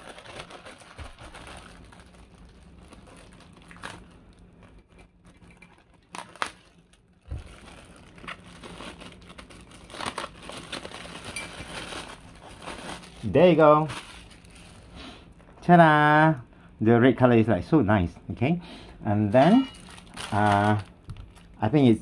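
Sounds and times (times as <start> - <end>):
plastic bag crinkling: 0.0 - 15.6, 19.4 - 21.8.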